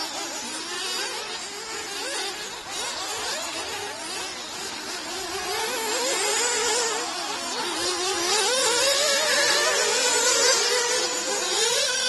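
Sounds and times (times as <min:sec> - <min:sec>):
rc car engines buzzing: 0:00.0 - 0:12.0.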